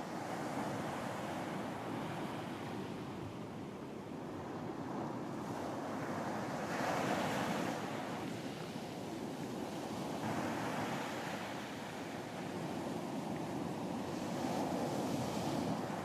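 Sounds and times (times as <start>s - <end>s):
ocean waves washing onto beach: 0.0s - 16.0s.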